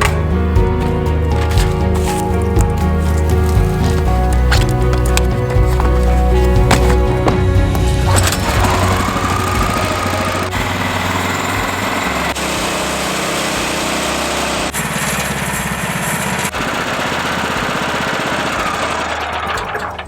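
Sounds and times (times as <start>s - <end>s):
small gasoline engine running: 1.3s - 20.0s.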